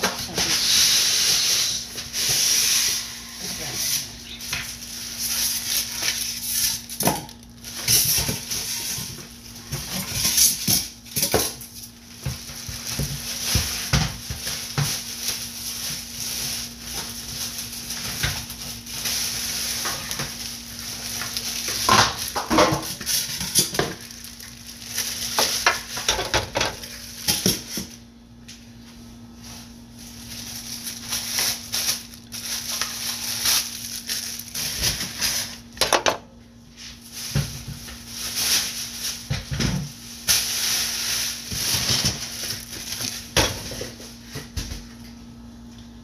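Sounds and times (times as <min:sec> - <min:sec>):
plastic wrapping crinkling: 0:02.0 - 0:28.0, 0:29.4 - 0:35.8, 0:37.0 - 0:44.3.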